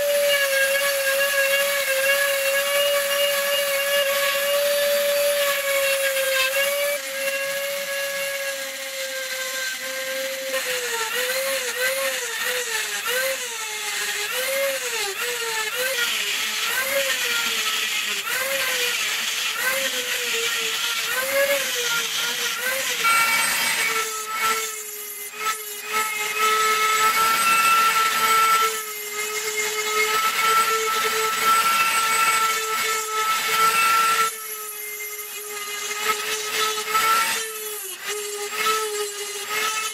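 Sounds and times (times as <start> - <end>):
rotary tool grinding stone: 0.0 - 39.9.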